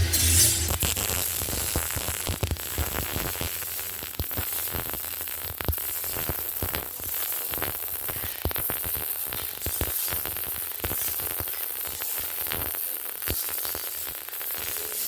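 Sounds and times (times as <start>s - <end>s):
welding arc sizzling and popping: 0.0s - 15.0s.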